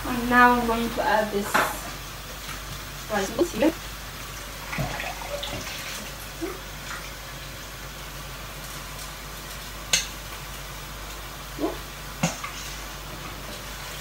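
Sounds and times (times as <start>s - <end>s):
vegetables hissing in a wok: 0.0s - 14.0s.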